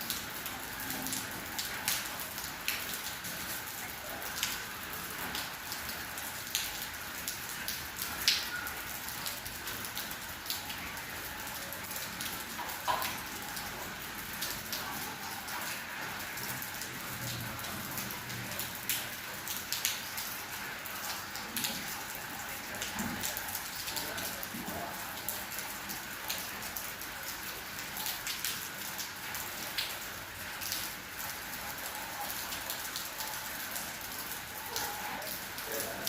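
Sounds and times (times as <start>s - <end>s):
rain drops ticking on surface: 0.0s - 36.0s
rain hiss: 0.0s - 36.0s.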